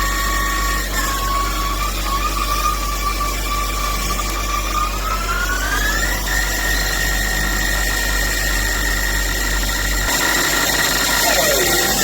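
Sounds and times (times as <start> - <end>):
lathe spindle whine: 0.0 - 12.0.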